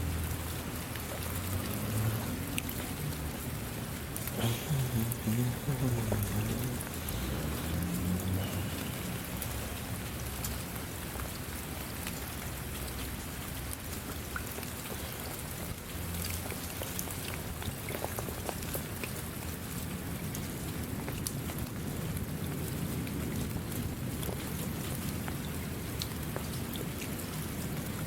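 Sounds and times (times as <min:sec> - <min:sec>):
rain falling: 0:00.0 - 0:28.0
raindrop ticks: 0:00.0 - 0:28.0.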